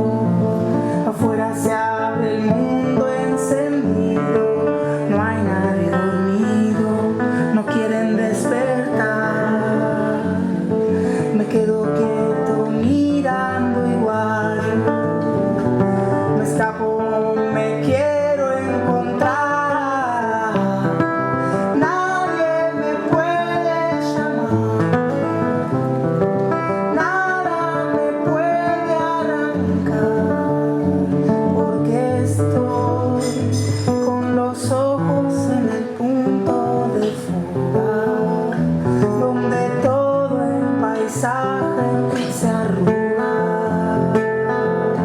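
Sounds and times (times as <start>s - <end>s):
folk-rock acoustic guitar: 0.0s - 45.0s.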